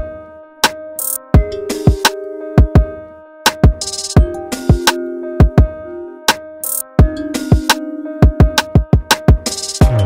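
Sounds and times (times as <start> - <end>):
drum beat with chords: 0.0 - 10.0.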